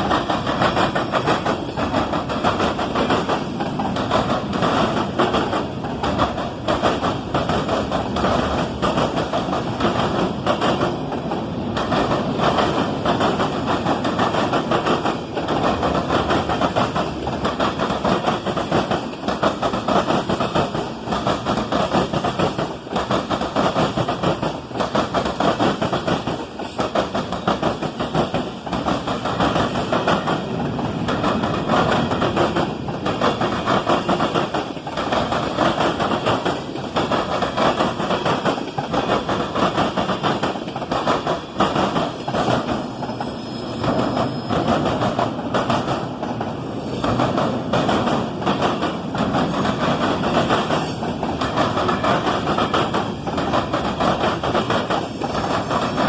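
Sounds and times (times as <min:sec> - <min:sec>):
train wheels clattering over rail joints: 0:00.0 - 0:43.2, 0:43.8 - 0:56.0.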